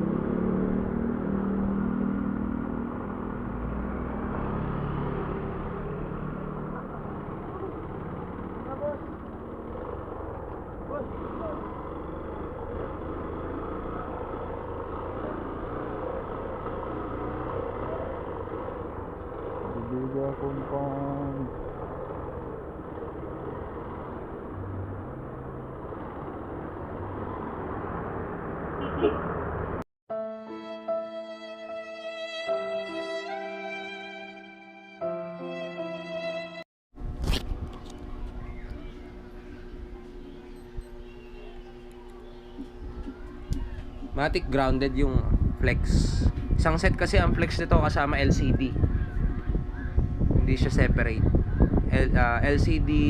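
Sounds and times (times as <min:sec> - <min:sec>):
motorcycle engine running: 0:00.0 - 0:29.8, 0:37.0 - 0:53.0
road traffic noise: 0:00.0 - 0:29.9, 0:36.4 - 0:53.0.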